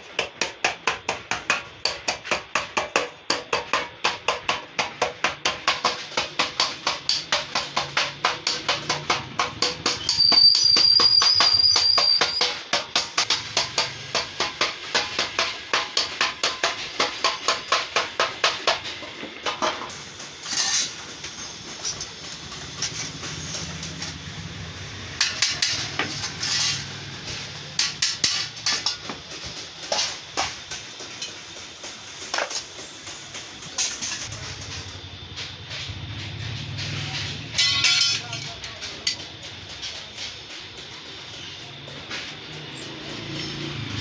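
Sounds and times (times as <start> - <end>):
hammer striking sheet metal: 0.0 - 24.3, 25.2 - 34.9, 36.8 - 39.3.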